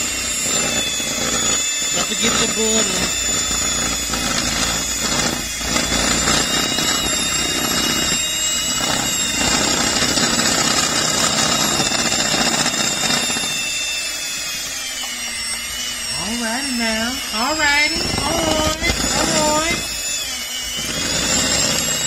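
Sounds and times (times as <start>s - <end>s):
electric hand mixer whining: 0.0s - 22.0s.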